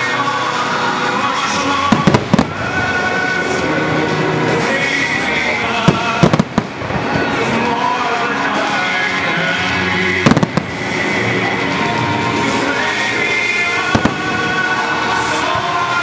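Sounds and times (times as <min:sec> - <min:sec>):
music: 0:00.0 - 0:16.0
fireworks bangs: 0:01.4 - 0:08.7, 0:10.0 - 0:16.0.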